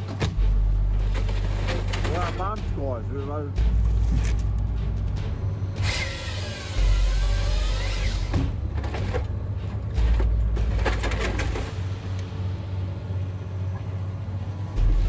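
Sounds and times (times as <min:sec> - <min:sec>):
heavy machinery engine drone: 0:00.0 - 0:15.0.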